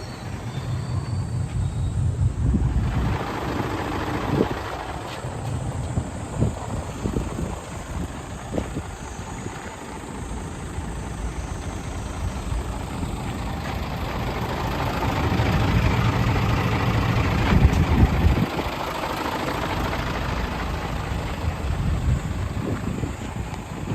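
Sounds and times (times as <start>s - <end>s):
diesel truck engine running: 0.0s - 23.9s.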